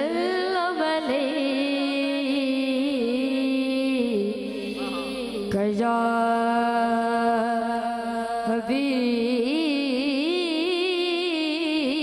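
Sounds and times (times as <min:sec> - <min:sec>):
boy singing into microphone: 0:00.0 - 0:12.0.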